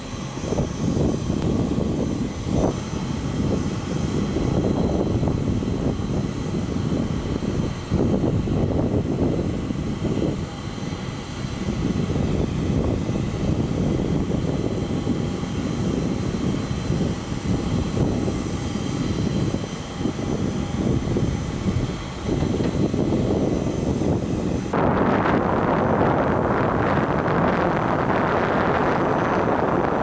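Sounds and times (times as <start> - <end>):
turbine engine whine: 0.0 - 30.0.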